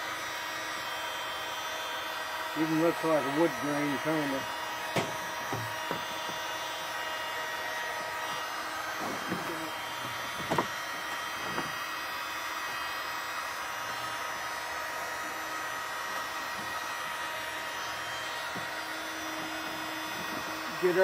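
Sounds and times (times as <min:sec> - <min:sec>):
heat gun blowing hot air: 0:00.0 - 0:21.0.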